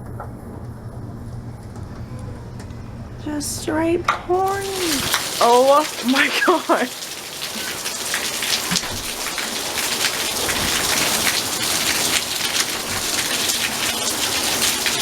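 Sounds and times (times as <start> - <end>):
heavy rain pouring: 3.0 - 15.0.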